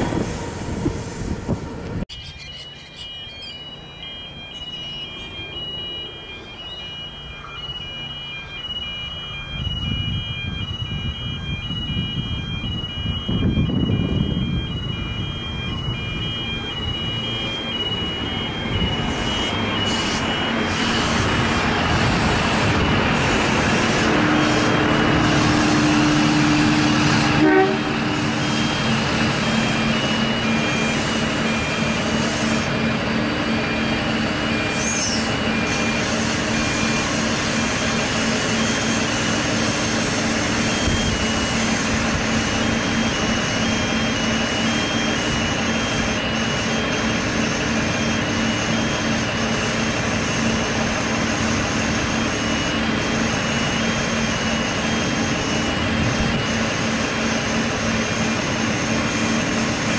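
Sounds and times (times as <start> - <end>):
diesel engine drone: 0.0 - 59.9
wheel and rail rumble: 0.0 - 59.9.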